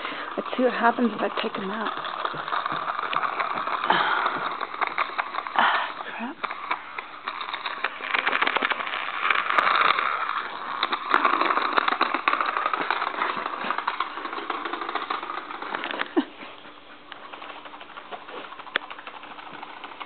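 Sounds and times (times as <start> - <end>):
rattle of clicks: 0.0 - 16.3, 17.1 - 20.0
toy motor whirring: 0.0 - 20.0.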